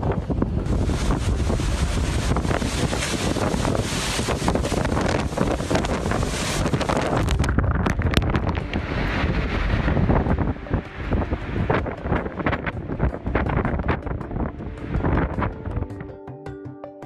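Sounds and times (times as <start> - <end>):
strong wind buffeting microphone: 0.0 - 16.2.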